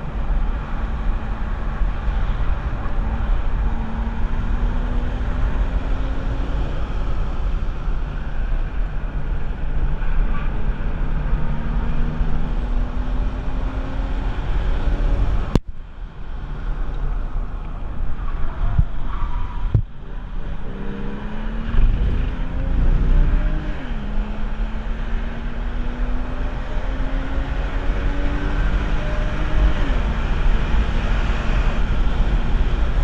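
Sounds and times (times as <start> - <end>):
car engine driven hard: 0.0 - 33.0
wind rushing over microphone: 0.0 - 33.0.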